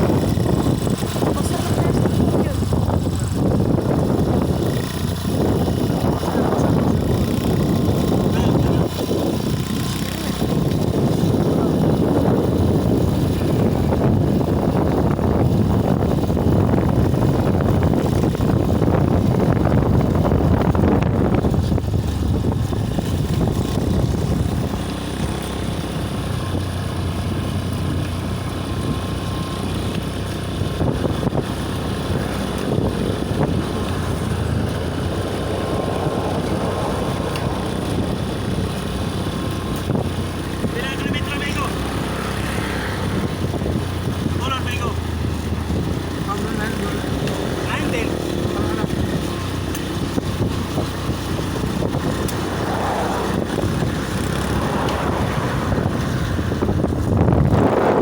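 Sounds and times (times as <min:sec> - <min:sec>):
wind rushing: 0:00.0 - 0:25.2, 0:30.5 - 0:58.0
road traffic noise: 0:00.0 - 0:58.0.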